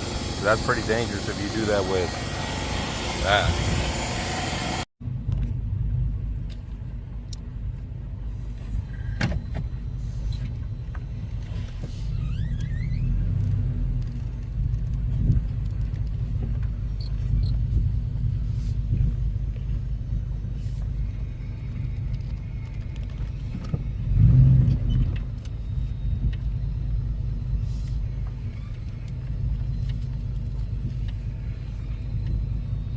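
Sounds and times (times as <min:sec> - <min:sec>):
pickup truck engine rumbling: 0:00.0 - 0:32.9.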